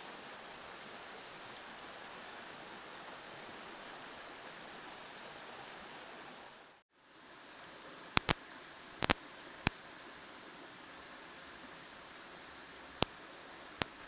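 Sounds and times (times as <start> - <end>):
rushing forest ambience: 0.0 - 14.0.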